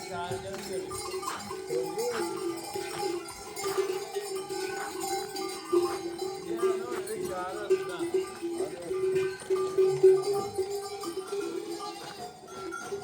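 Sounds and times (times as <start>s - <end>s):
animal bells jingling: 0.0s - 13.0s
sheep and goats bleating: 0.8s - 13.0s.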